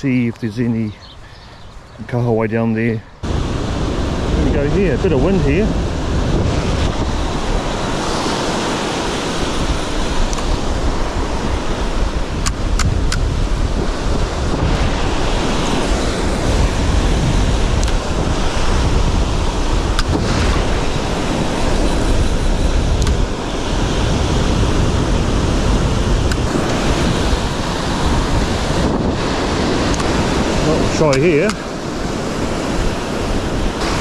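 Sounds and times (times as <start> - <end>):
surf waves breaking on sand: 0.0 - 34.0
wind buffeting microphone: 0.0 - 34.0.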